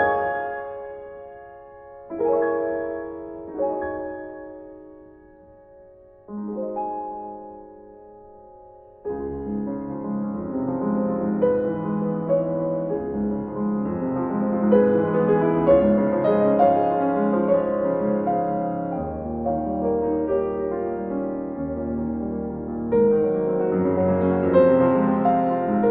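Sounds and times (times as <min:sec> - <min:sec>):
soft piano music: 0:00.0 - 0:25.9.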